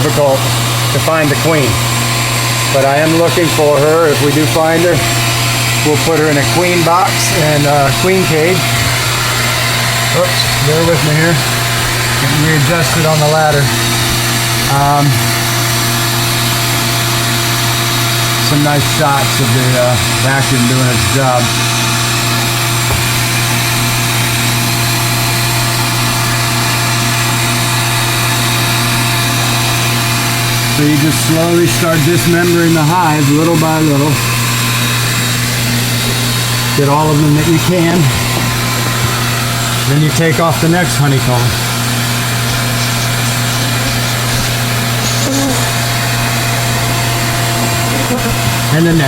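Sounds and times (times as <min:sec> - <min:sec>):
vacuum motor hum: 0:00.0 - 0:49.0.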